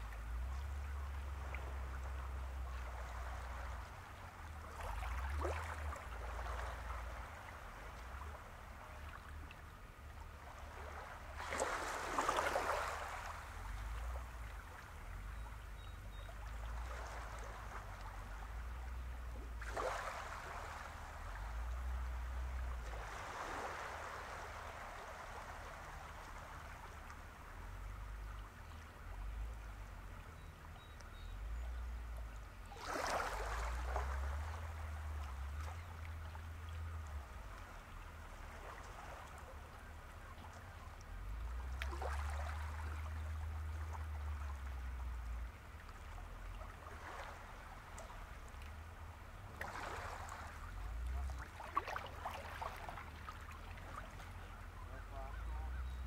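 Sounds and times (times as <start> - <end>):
small waves lapping at shore: 0.0 - 56.0.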